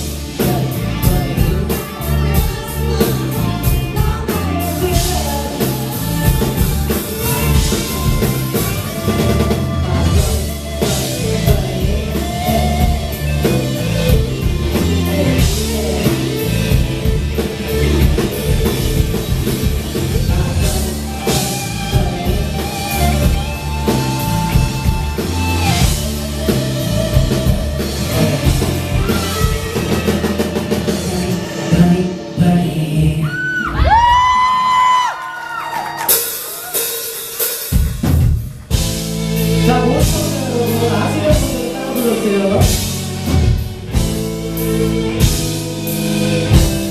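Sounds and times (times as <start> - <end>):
drum beat with heavy bass: 0.0 - 33.0, 36.1 - 46.9
person singing: 0.0 - 35.1, 39.3 - 46.9.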